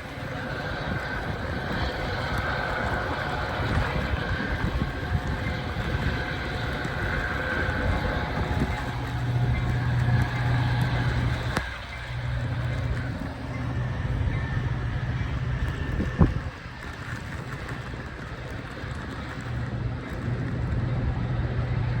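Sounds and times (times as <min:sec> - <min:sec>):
low engine drone: 0:00.0 - 0:22.0
train rumbling on rails: 0:00.0 - 0:22.0.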